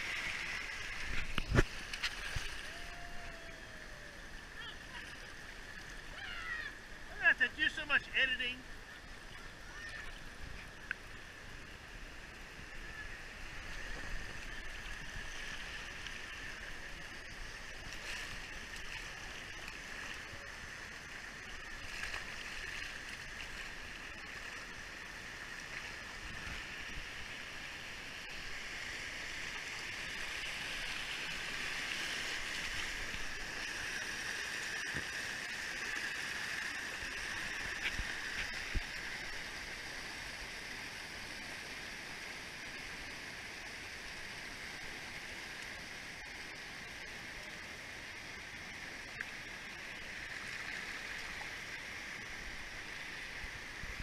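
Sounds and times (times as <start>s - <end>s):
creek water rushing and gurgling: 0.0s - 54.0s.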